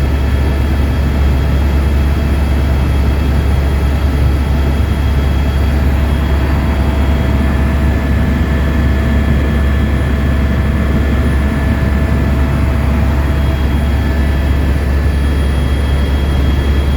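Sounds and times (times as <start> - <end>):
helicopter low drone: 0.0 - 16.9
faint steady whining tones: 1.9 - 16.9.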